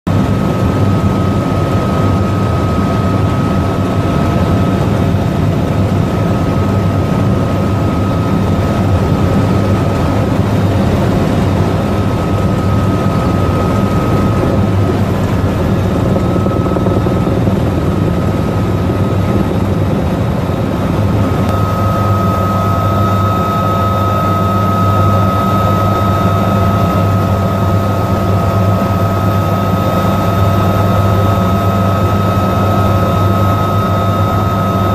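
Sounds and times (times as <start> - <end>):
helicopter engines and rotor drone: 0.0 - 34.9
high whine: 0.2 - 34.9.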